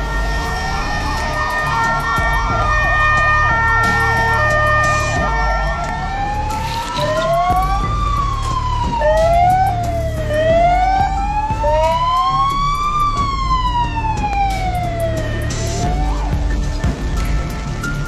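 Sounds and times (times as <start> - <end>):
low rumble: 0.0 - 17.4
emergency sirens wailing: 0.0 - 18.0.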